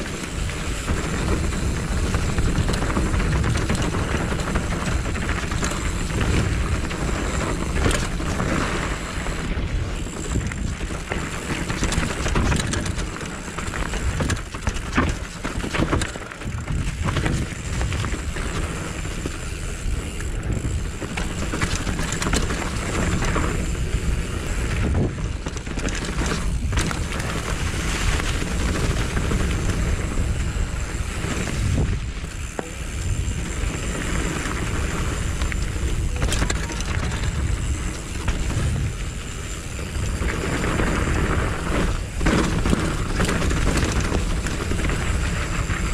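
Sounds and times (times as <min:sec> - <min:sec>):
bike rattling over bumps: 0:00.0 - 0:45.9
tyre and wind noise: 0:00.0 - 0:45.9.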